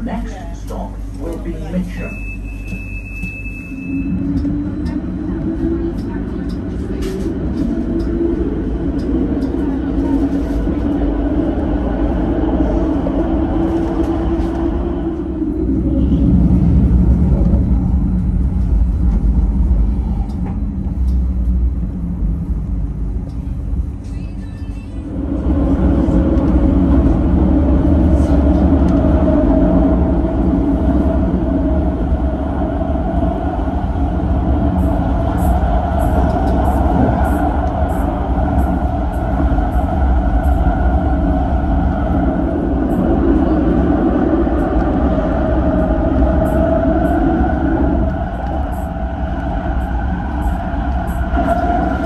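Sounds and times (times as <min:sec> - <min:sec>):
tram rumbling along rails: 0:00.0 - 0:52.0.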